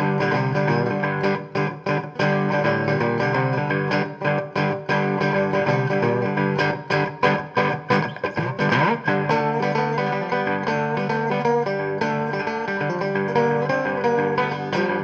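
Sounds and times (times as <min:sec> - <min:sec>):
guitar instrumental with beat: 0:00.0 - 0:15.0.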